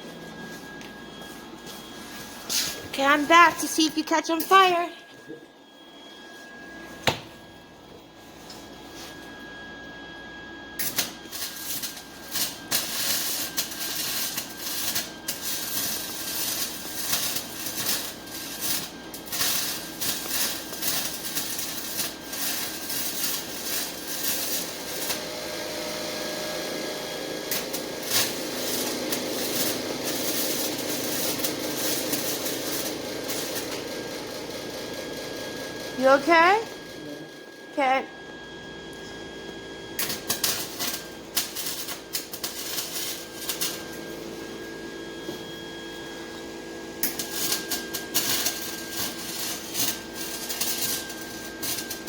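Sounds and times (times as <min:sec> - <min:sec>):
welding arc crackling and sizzling: 0:00.0 - 0:04.9, 0:10.8 - 0:38.1, 0:38.9 - 0:45.4, 0:46.0 - 0:52.0.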